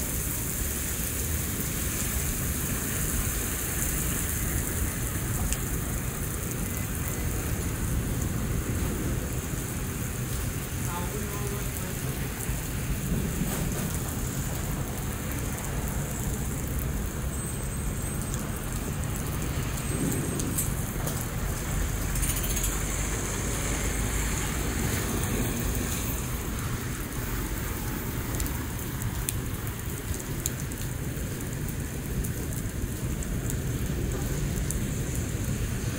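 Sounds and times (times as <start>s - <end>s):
heavy rain on standing water: 0.0s - 35.9s.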